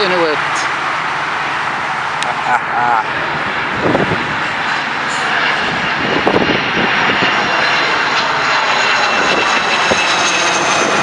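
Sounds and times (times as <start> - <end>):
jet engines passing: 0.0 - 11.0.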